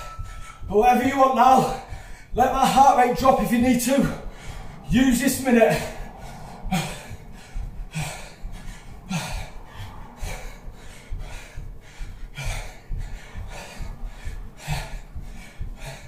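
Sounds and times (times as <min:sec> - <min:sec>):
man breathing hard: 0:00.0 - 0:16.0.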